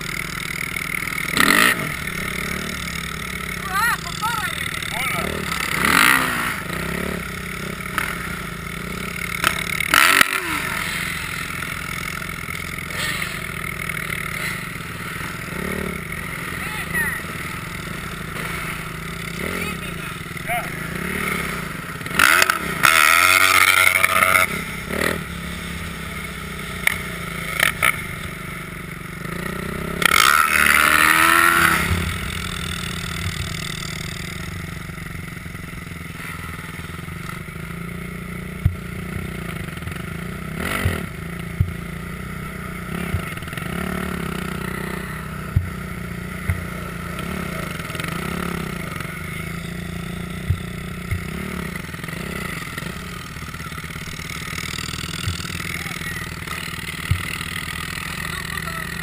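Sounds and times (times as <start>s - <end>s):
dirt bike engine idling: 0.0s - 59.0s
dirt bike engine revving: 0.0s - 59.0s.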